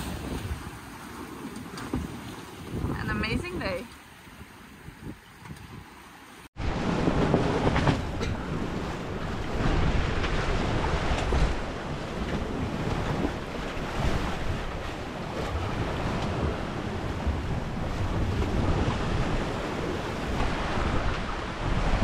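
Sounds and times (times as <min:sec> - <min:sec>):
wind buffeting microphone: 0:00.0 - 0:01.0, 0:01.6 - 0:06.0, 0:06.6 - 0:22.0
waves rushing along hull: 0:00.0 - 0:22.0.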